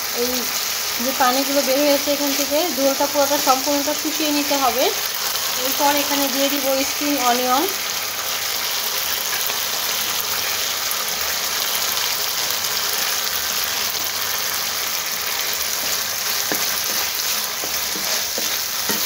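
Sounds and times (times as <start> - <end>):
chicken sizzling in a pan: 0.0 - 19.0.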